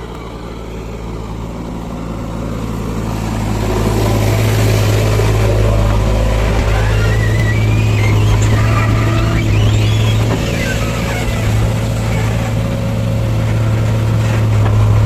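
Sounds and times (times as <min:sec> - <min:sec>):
heavy machinery diesel engine revving: 0:00.0 - 0:15.0.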